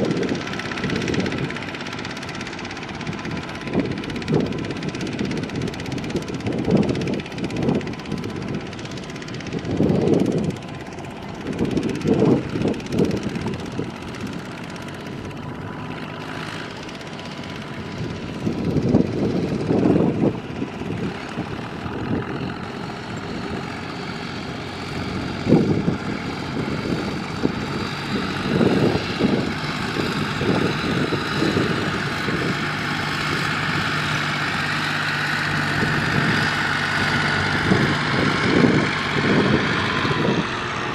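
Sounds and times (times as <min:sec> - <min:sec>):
tractor engines droning: 0:00.0 - 0:40.9.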